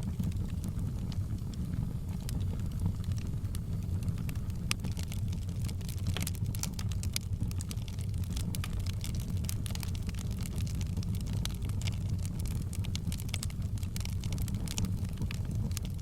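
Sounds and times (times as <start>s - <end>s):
low rumble of flame: 0.0s - 16.0s
wood fire crackling and popping: 0.0s - 16.0s.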